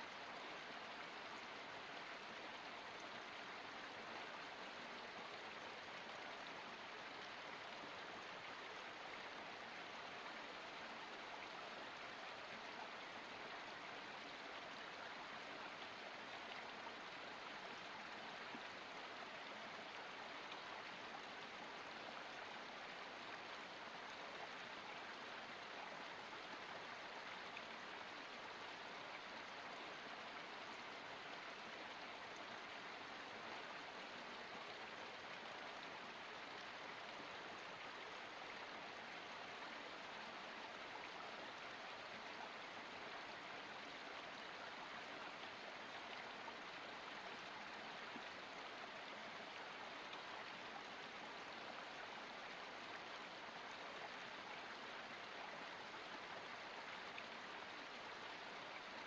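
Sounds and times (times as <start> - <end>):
water trickling over rocks: 0.0 - 59.0.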